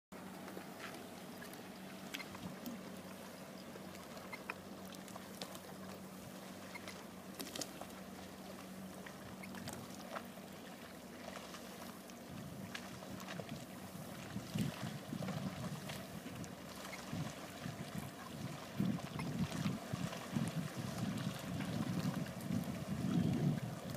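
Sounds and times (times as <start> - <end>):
soft water wash: 0.1 - 23.9
boat engines running: 0.2 - 23.9.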